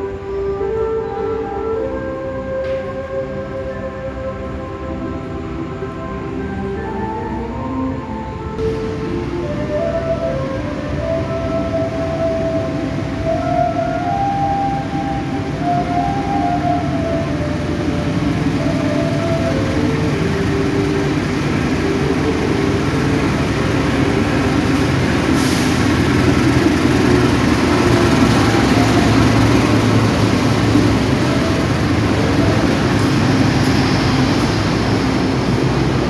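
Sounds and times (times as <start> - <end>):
locomotive engine rumble: 0.0 - 36.0.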